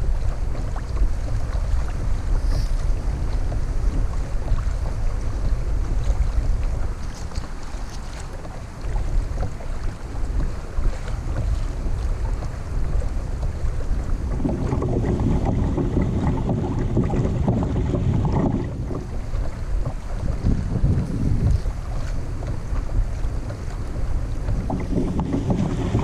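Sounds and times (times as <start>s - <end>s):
water sloshing around a kayak: 0.0s - 26.0s
wind buffeting microphone: 0.0s - 26.0s.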